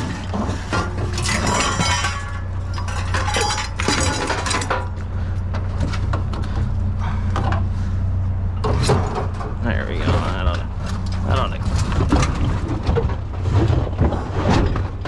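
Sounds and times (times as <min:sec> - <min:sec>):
scrap metal clattering: 0:00.0 - 0:06.6, 0:08.6 - 0:15.0
steady low hum: 0:00.0 - 0:15.0.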